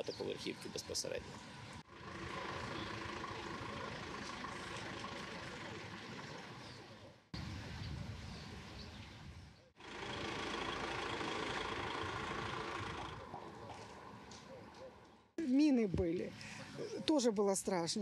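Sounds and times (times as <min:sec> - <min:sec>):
engine humming: 0:00.0 - 0:07.7, 0:09.8 - 0:16.8.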